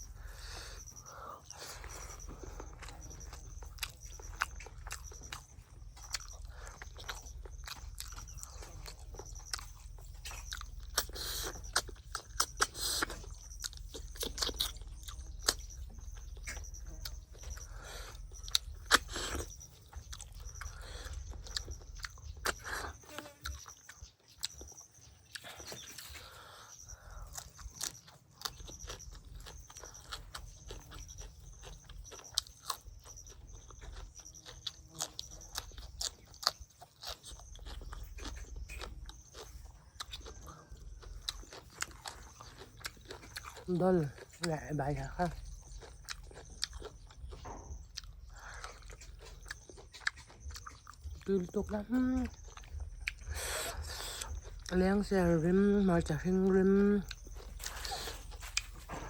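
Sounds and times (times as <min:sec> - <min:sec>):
person chewing and crunching: 0:00.0 - 0:59.0.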